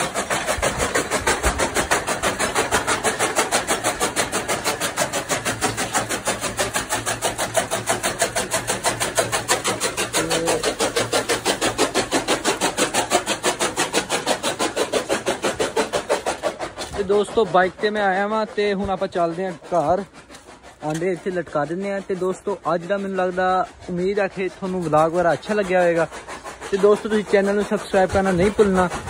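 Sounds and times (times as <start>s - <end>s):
chaff cutter blade chopping: 0.0s - 29.0s
electric motor running: 0.0s - 29.0s.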